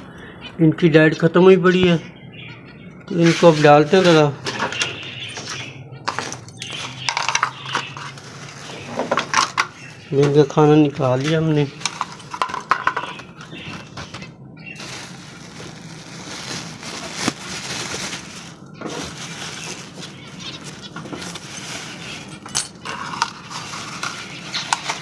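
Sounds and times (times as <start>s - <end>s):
plastic bag rustling: 3.1s - 25.0s.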